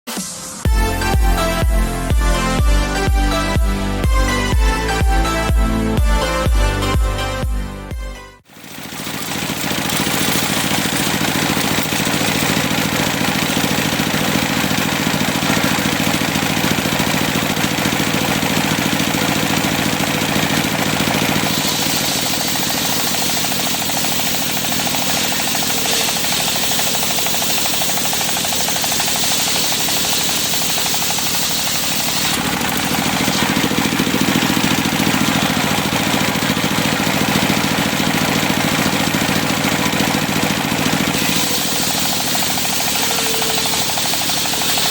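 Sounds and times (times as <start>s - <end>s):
circular saw cutting timber: 8.5s - 44.9s.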